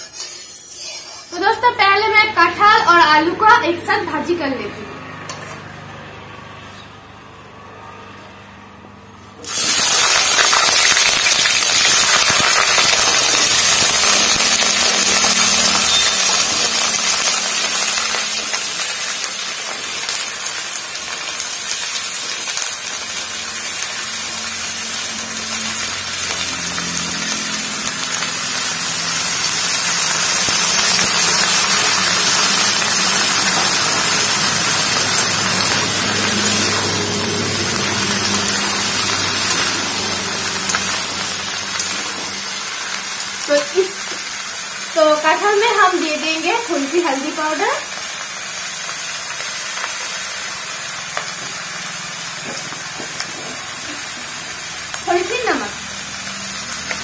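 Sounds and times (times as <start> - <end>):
vegetables sizzling in hot oil: 0.0 - 3.6, 9.4 - 57.0.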